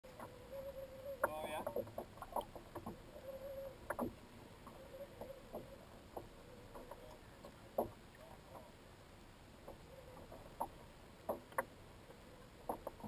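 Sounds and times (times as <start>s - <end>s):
faint reel whine: 0.1s - 13.0s.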